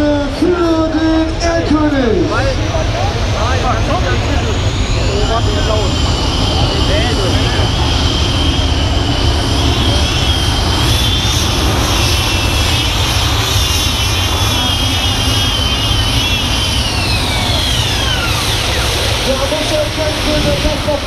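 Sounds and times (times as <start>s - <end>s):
tractor engine at full power: 0.0s - 21.0s.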